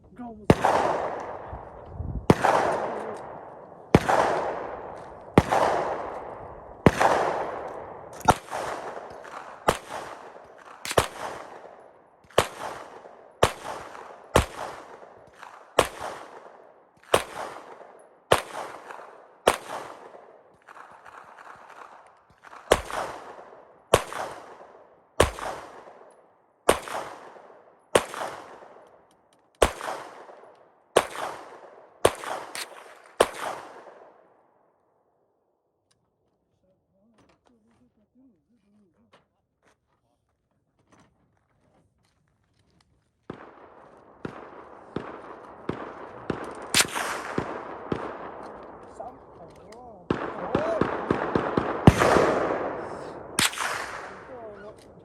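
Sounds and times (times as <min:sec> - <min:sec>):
rifle shots with ringing echo: 0:00.4 - 0:35.2, 0:43.2 - 0:55.0.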